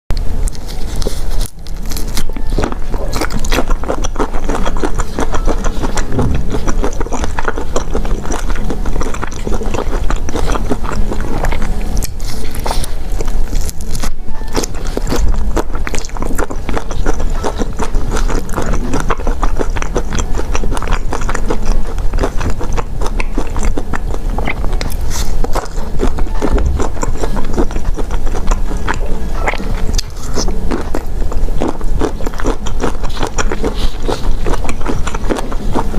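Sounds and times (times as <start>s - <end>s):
close biting and chewing: 0.1s - 35.9s
background music: 0.2s - 35.9s.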